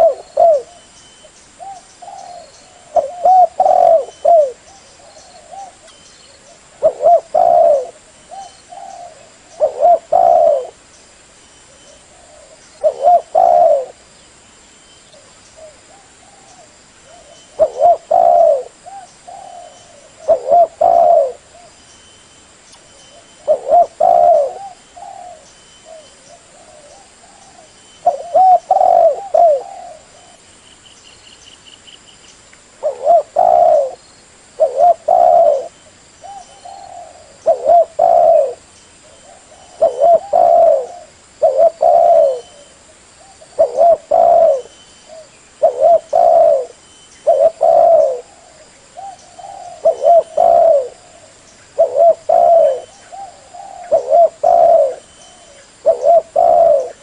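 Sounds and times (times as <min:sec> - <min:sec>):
dove cooing: 0:00.0 - 0:00.9, 0:01.6 - 0:10.8, 0:11.7 - 0:14.0, 0:15.2 - 0:21.8, 0:22.9 - 0:30.4, 0:32.8 - 0:34.0, 0:34.6 - 0:57.0.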